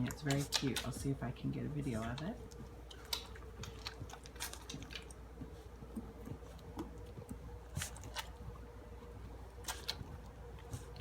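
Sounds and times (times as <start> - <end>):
puppies crunching dry food: 0.0 - 11.0.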